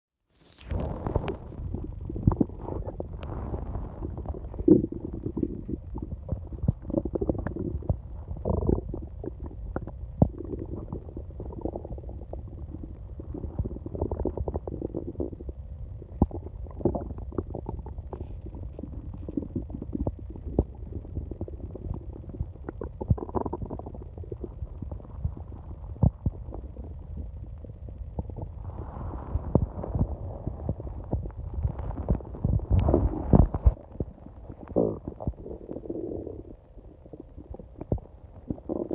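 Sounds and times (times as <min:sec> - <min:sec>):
stomach growling: 0:00.4 - 0:38.9.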